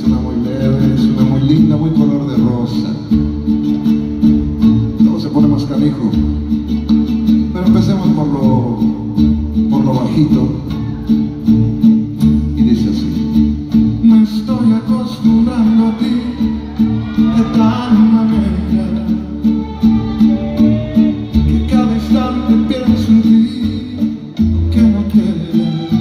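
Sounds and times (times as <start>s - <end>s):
live band playing: 0.0s - 26.0s
strummed guitars: 0.0s - 26.0s.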